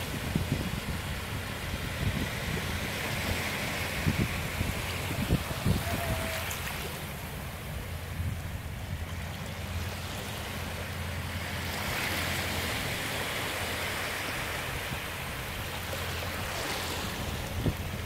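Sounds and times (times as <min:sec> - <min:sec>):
small waves lapping on sand: 0:00.0 - 0:18.0.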